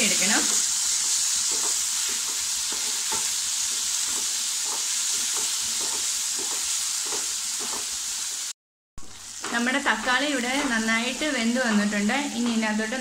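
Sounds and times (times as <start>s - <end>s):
vegetables sizzling in a pan: 0.0s - 13.0s
wooden spatula scraping: 0.2s - 8.0s, 9.2s - 13.0s.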